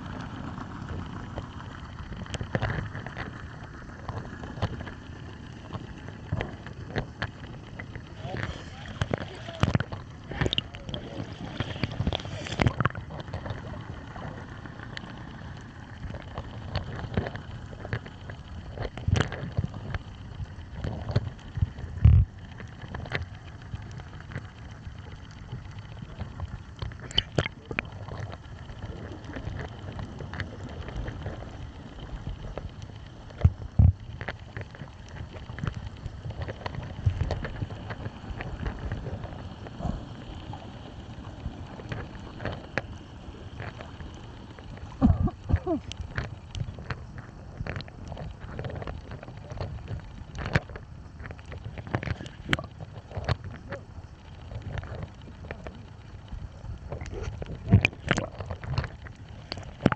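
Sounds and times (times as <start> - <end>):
muffled water sloshing and gurgling: 0.0 - 59.9
steady low rumble: 0.0 - 59.9.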